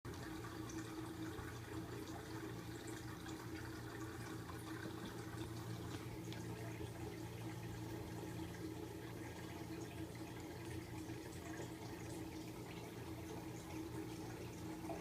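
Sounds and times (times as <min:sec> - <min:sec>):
small water drips: 0:00.1 - 0:15.0
steady low hum: 0:00.1 - 0:15.0
water trickling: 0:00.1 - 0:15.0.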